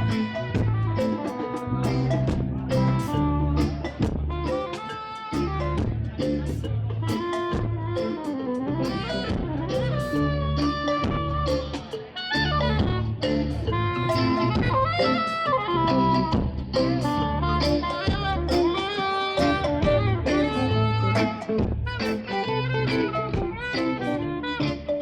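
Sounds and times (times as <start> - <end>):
steady drum beat: 0.0 - 24.3
melodic lead line: 0.0 - 25.0
strong bass notes: 0.0 - 25.0.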